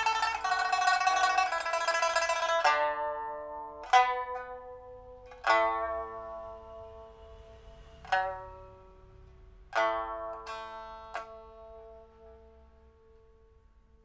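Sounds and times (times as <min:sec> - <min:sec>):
pipa chords ringing: 0:00.0 - 0:14.0.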